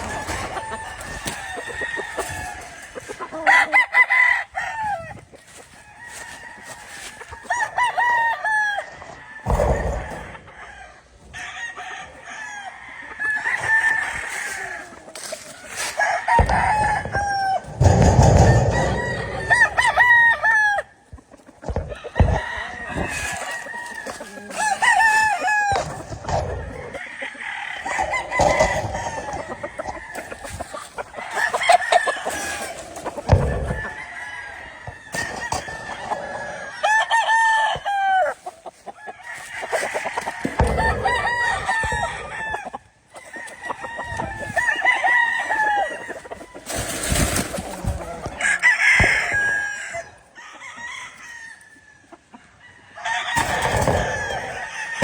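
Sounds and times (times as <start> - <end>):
roosters crowing: 0.0 - 55.0.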